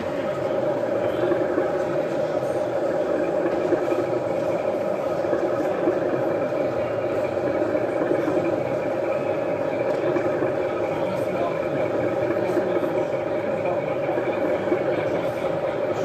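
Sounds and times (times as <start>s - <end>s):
model train humming and rattling: 0.0s - 16.0s.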